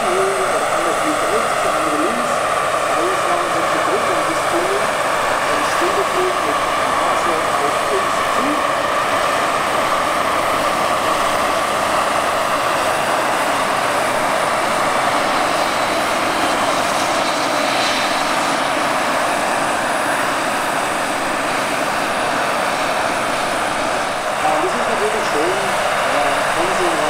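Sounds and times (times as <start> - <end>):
model helicopter turbine whine: 0.0 - 27.0
rotor and exhaust rush: 0.0 - 27.0.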